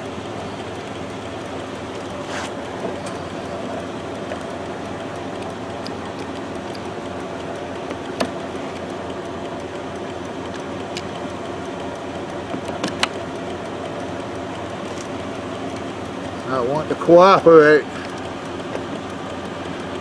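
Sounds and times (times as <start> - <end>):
engine idling hum: 0.0 - 20.0
clicks and taps from handling parts: 0.2 - 9.0, 9.8 - 20.0.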